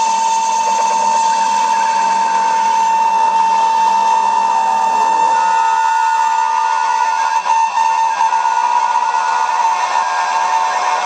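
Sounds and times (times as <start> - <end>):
high-pitched whine: 0.0 - 11.0.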